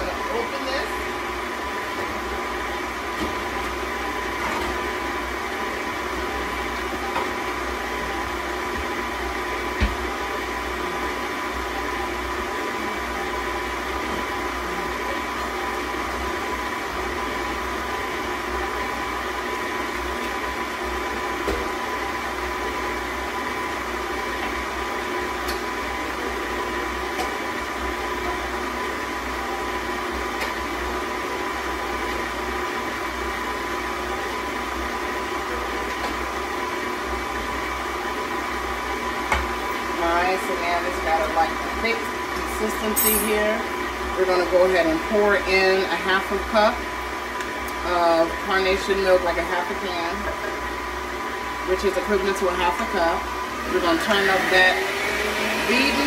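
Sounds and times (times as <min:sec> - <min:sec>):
stand mixer whining: 0:00.0 - 0:56.0.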